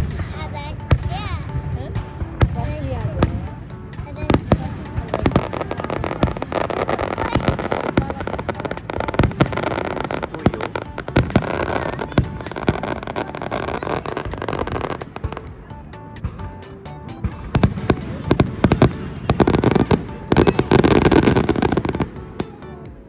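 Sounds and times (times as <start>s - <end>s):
fireworks bangs: 0.0s - 22.6s
fireworks crackling: 0.0s - 23.0s.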